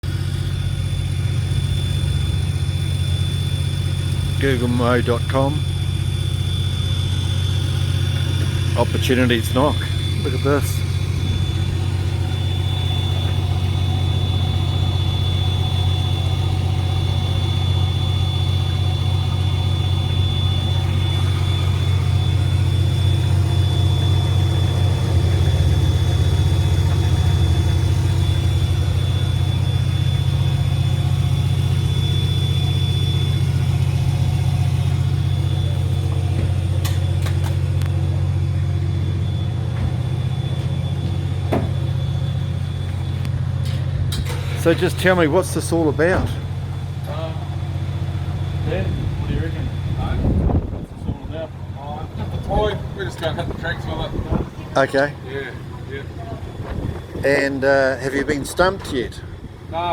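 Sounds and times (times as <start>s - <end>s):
vehicle engine idling: 0.0s - 59.9s
faint high whine: 0.1s - 59.9s.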